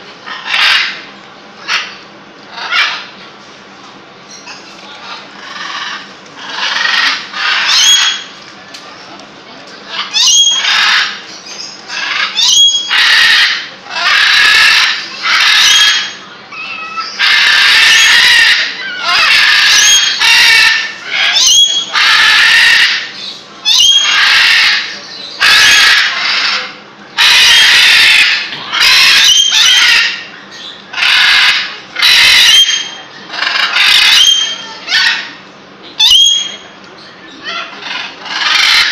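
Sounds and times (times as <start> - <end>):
parrot screeching: 0.2 - 1.0, 1.6 - 3.1, 5.0 - 8.4, 9.9 - 35.4, 36.0 - 36.7, 37.4 - 38.9.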